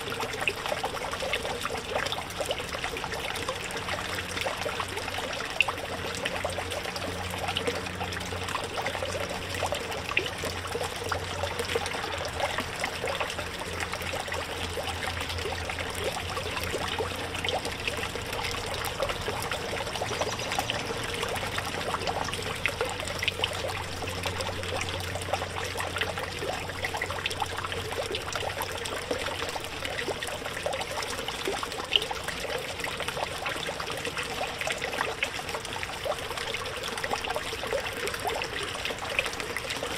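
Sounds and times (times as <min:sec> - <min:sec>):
fountain water trickling: 0:00.0 - 0:39.9.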